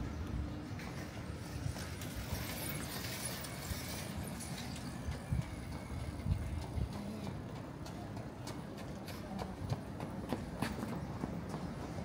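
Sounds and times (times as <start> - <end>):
street noise hum: 0.0 - 12.0
footsteps on pavement: 0.1 - 12.0.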